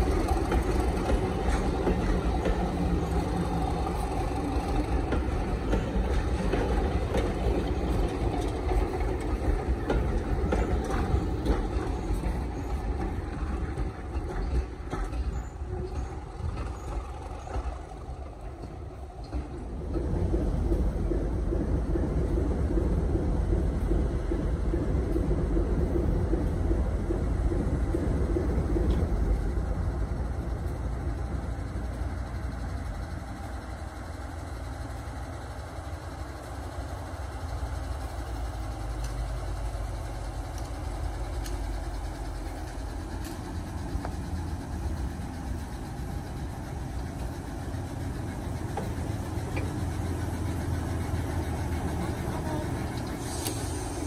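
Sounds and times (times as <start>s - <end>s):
diesel locomotive engine running: 0.0s - 54.0s.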